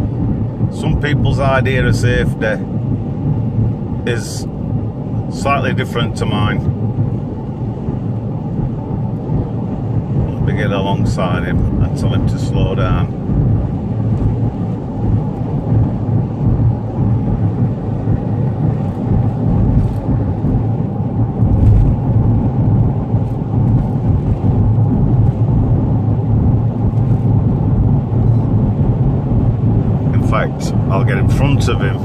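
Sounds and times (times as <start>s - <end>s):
car road and engine drone: 0.0s - 32.0s.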